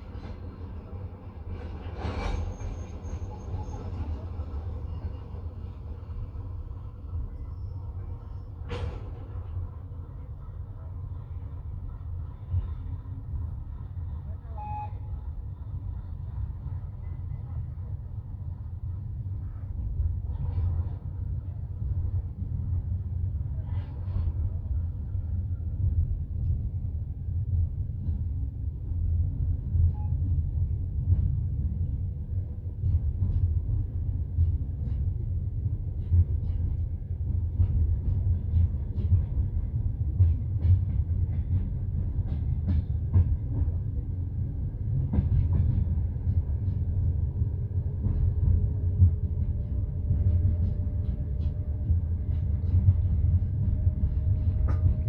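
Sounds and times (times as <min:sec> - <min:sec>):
train carriage rumble: 0:00.0 - 0:55.0.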